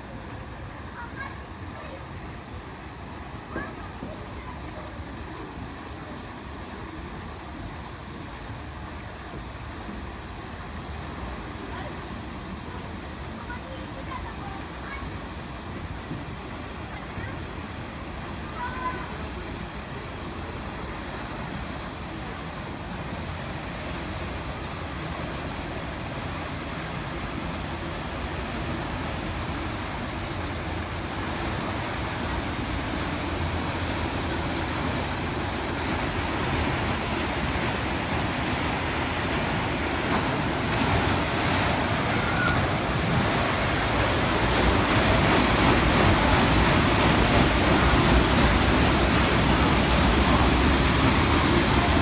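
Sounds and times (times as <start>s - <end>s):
paddle wheels churning water: 0.0s - 52.0s.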